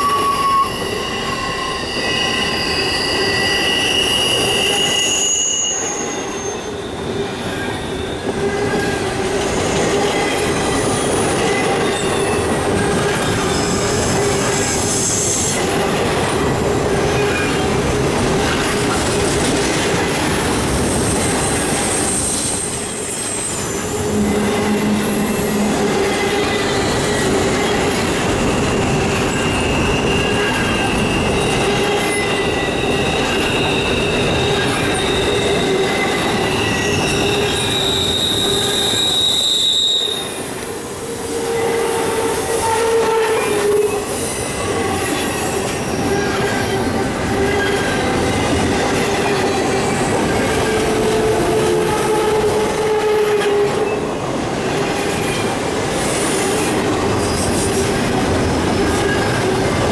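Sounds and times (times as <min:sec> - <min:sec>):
wheel flanges squealing: 0:00.0 - 0:54.0, 0:56.6 - 0:59.9
train wheels rumbling and clattering: 0:05.8 - 0:59.9.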